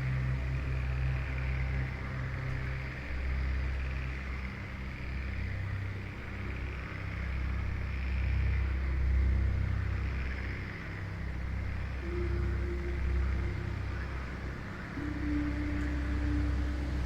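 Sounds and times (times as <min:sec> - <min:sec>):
ambient drone music: 0:00.0 - 0:17.0
rainforest ambience hiss: 0:00.0 - 0:17.0.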